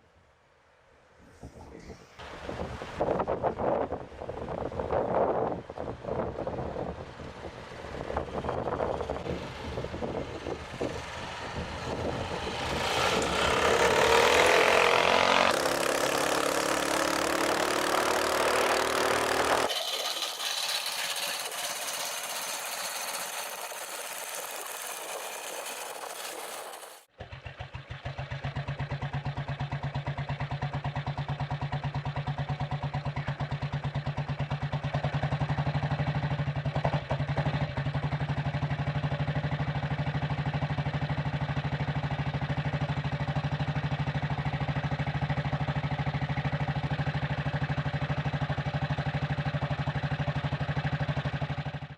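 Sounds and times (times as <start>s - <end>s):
motorcycle engine idling: 6.1s - 14.4s, 15.6s - 51.9s.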